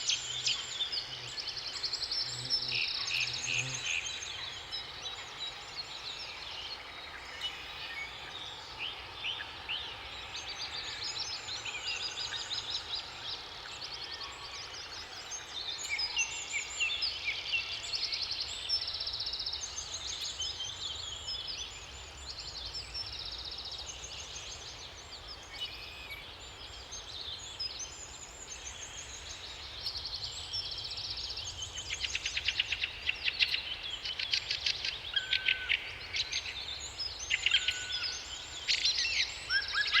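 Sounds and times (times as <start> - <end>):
songbirds singing and chirping: 0.0 - 40.0.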